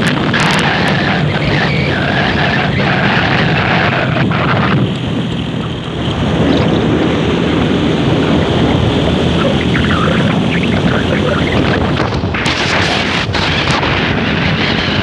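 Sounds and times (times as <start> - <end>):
car road and engine roar: 0.0 - 15.0.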